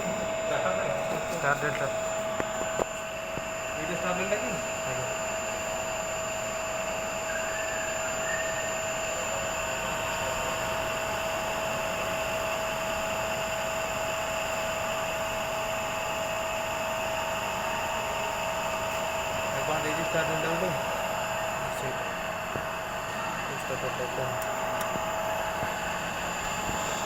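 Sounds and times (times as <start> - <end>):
electric motor humming and whining: 0.0 - 27.0.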